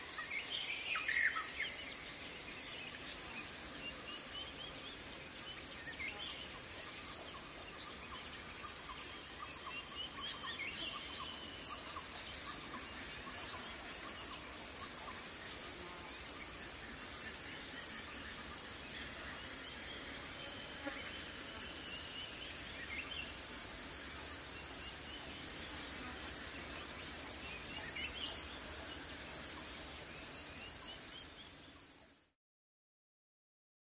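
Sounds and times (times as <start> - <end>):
chorus of insects: 0.0 - 32.3.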